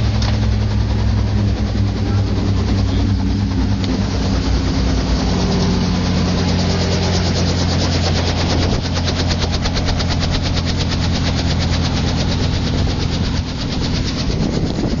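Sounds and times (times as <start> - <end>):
helicopter running: 0.0 - 15.0.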